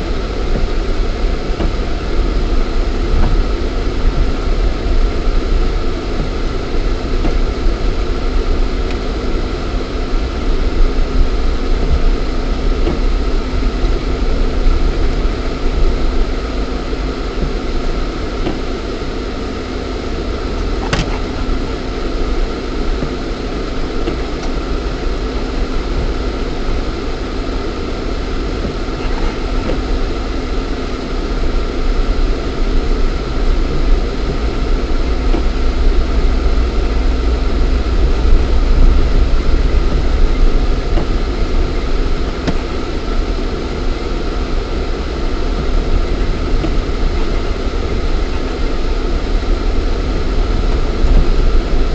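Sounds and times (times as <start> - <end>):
car engine rumbling inside cabin: 0.0 - 51.9.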